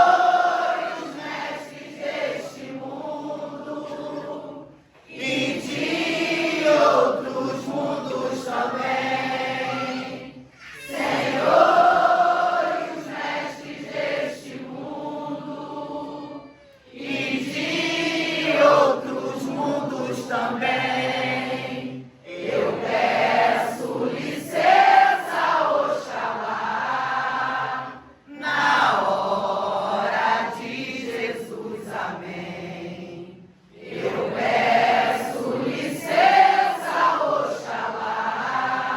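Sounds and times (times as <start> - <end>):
group singing a devotional chant: 0.0 - 38.9.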